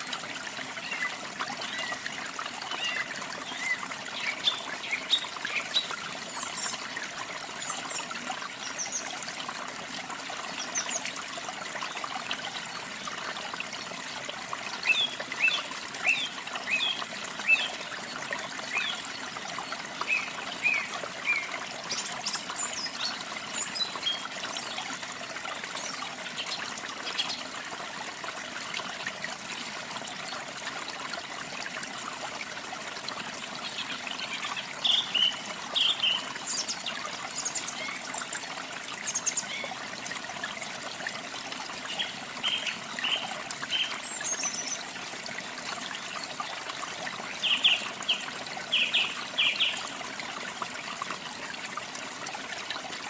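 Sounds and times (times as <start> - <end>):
running water trickling: 0.0 - 53.0.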